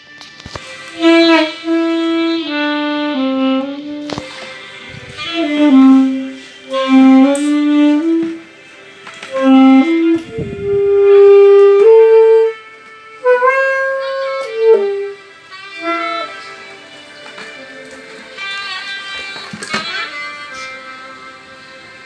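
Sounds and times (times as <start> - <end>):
saxophone melody: 0.0 - 22.0.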